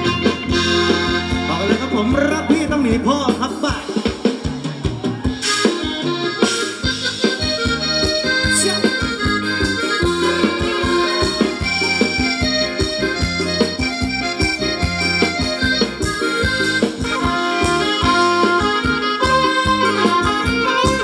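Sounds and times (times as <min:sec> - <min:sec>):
live band dance music: 0:00.0 - 0:21.0
steady drum beat: 0:00.0 - 0:21.0.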